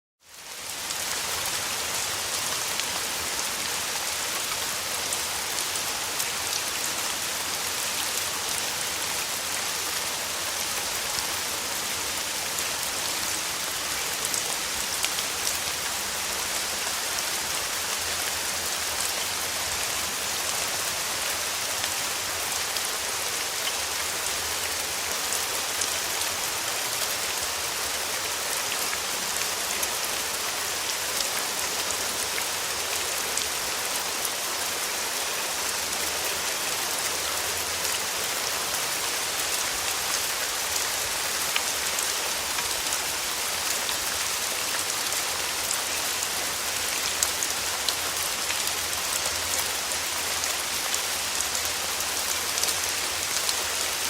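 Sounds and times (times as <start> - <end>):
steady rain falling: 0.2 - 54.0.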